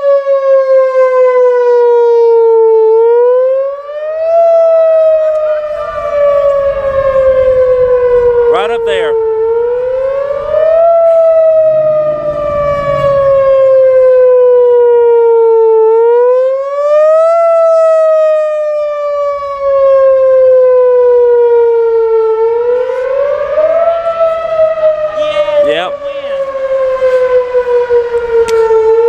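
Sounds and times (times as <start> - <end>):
warning siren wailing: 0.0 - 29.0.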